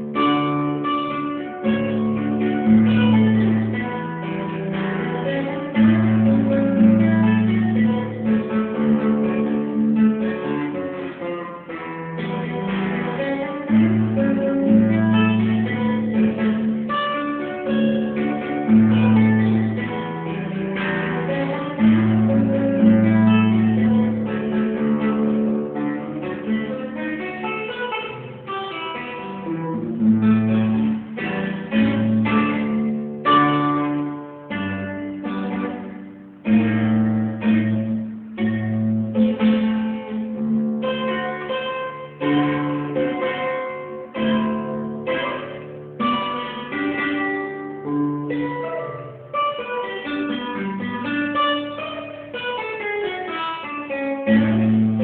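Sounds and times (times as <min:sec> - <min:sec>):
acoustic guitar plucked melody: 0:00.0 - 0:55.0.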